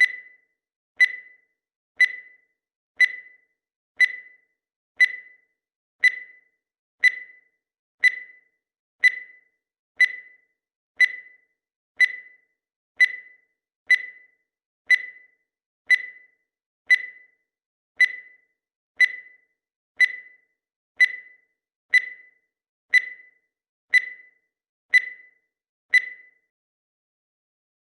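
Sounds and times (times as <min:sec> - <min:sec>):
high-pitched timer ticks: 0:00.0 - 0:26.5.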